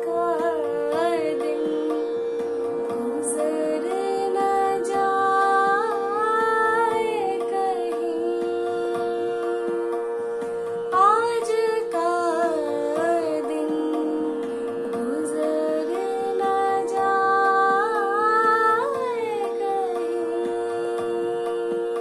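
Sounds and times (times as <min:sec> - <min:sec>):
woman singing melismatic phrases: 0:00.0 - 0:02.2, 0:02.9 - 0:10.2, 0:10.9 - 0:22.0.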